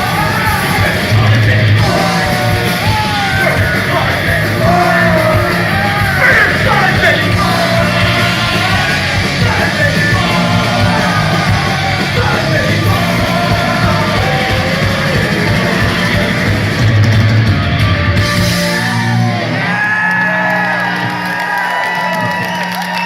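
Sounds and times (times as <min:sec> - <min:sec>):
shouted vocals: 0:00.0 - 0:16.8, 0:18.6 - 0:23.0
punk rock band playing: 0:00.0 - 0:23.0.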